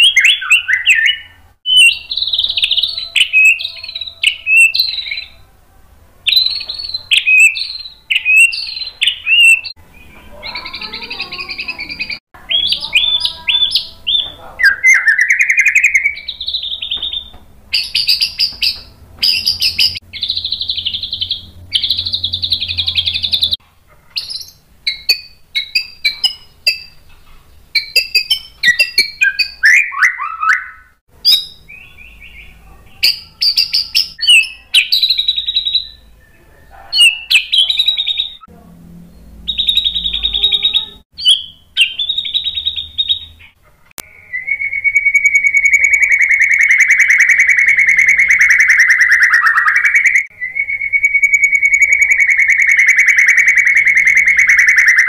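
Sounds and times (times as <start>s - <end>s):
songbird singing varied song: 0.0s - 5.5s, 6.2s - 23.6s, 24.2s - 55.0s.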